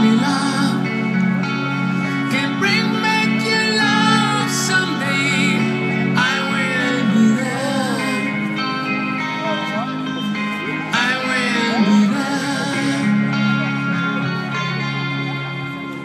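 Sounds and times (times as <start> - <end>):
person singing: 0.0 - 9.9, 10.6 - 14.7
guitar: 0.0 - 16.0
sustained instruments: 0.0 - 16.0.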